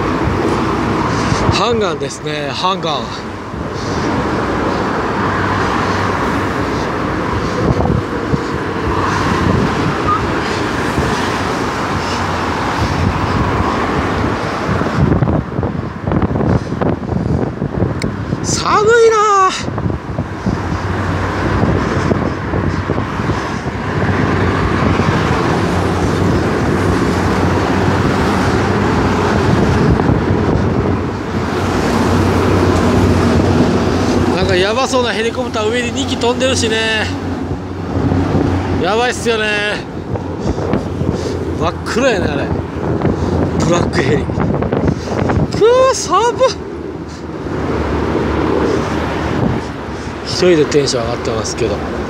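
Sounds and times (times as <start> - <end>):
road traffic rumble: 0.0 - 52.0
wind buffeting microphone: 0.0 - 52.0.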